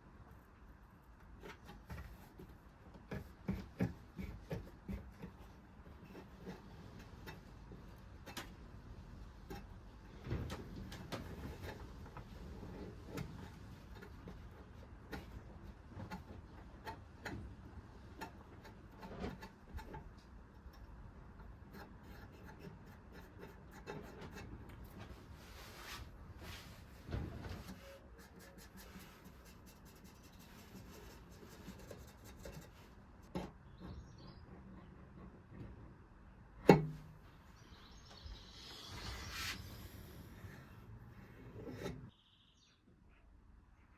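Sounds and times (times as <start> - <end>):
hand rubbing and scraping steel: 1.3 - 35.7, 38.2 - 42.2.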